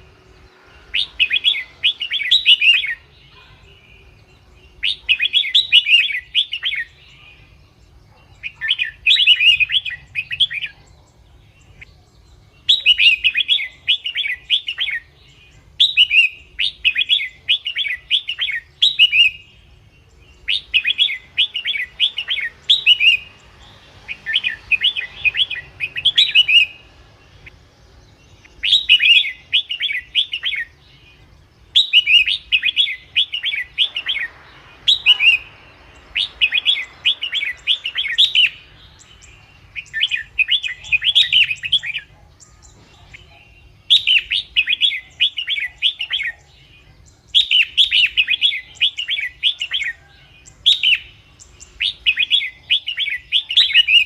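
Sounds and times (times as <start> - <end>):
bulbul song: 0.0 - 54.0.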